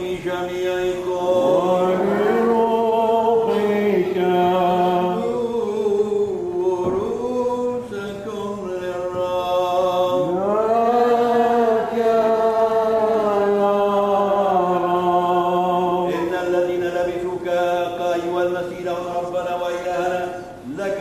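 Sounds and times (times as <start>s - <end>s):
man singing liturgical chant: 0.0s - 21.0s.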